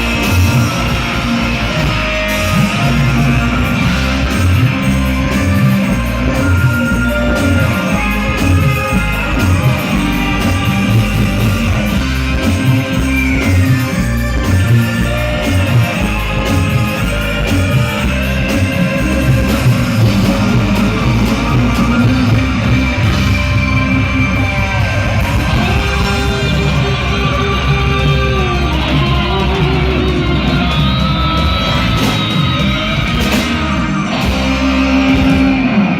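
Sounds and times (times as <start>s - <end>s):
loud rock music with singing: 0.0s - 35.9s.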